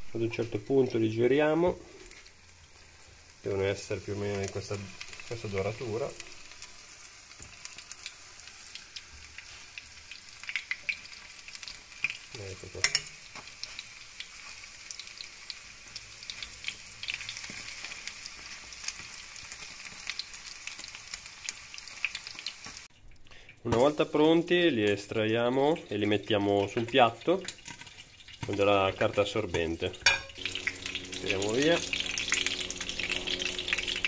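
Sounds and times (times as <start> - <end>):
food frying in hot oil: 0.1 - 34.0.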